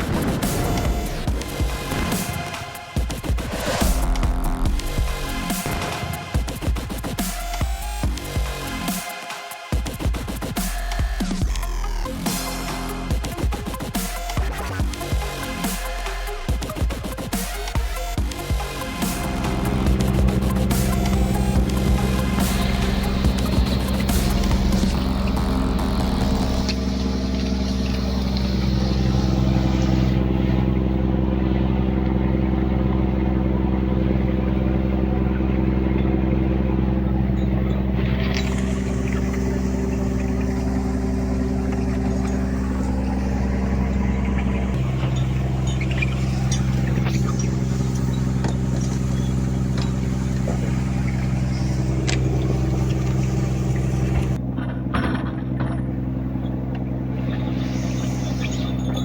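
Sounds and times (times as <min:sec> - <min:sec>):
boat engine running: 0:00.0 - 0:06.6, 0:11.0 - 0:59.0.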